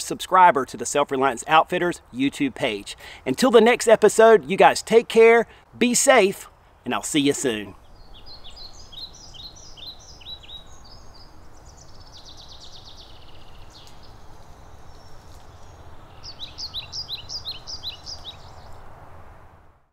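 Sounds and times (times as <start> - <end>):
songbirds singing: 0.0 - 18.9.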